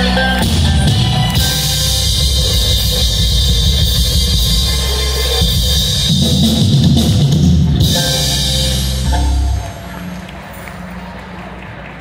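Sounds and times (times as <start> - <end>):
live band music through pa: 0.0 - 11.2.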